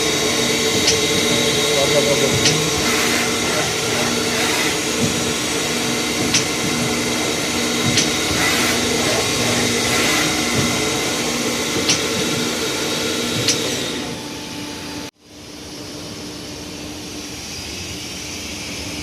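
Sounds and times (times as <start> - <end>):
lathe whirring and humming: 0.0 - 19.0.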